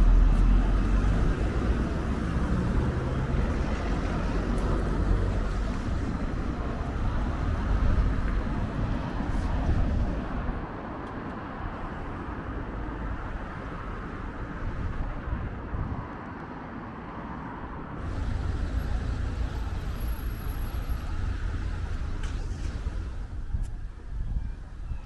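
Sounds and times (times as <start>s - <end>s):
passing vehicles rumbling: 0.0s - 25.0s.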